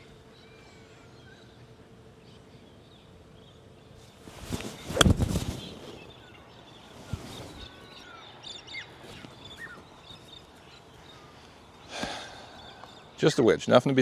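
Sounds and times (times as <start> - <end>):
faint bird chirps: 0.0 - 13.5.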